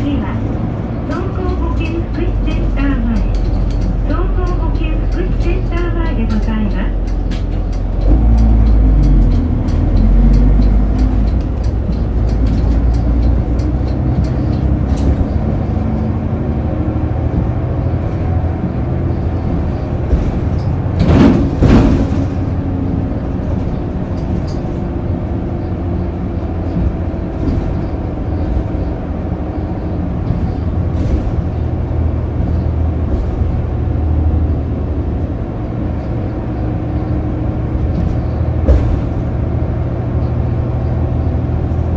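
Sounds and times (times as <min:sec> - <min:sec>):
bus diesel engine running: 0:00.0 - 0:41.9.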